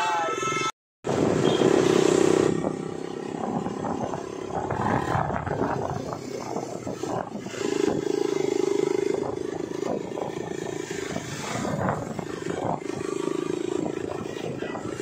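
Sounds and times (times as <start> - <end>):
motorcycle engine running: 1.1 - 15.0.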